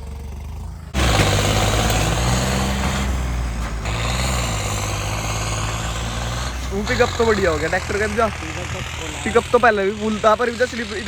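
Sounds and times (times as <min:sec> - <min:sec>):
tractor diesel engine: 0:00.0 - 0:11.0.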